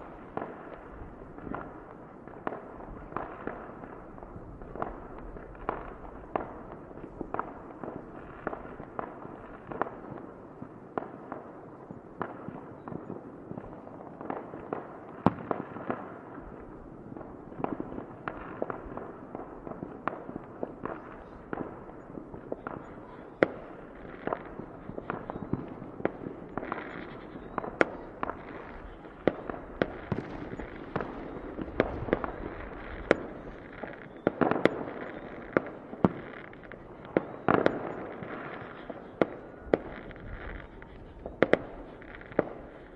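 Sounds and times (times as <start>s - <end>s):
continuous background noise: 0.0s - 42.9s
fireworks bangs and pops: 0.0s - 42.9s.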